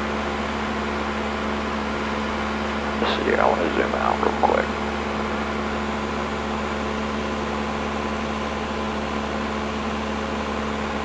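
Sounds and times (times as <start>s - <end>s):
airplane engine and propeller droning: 0.0s - 11.0s
low hum: 0.0s - 11.0s.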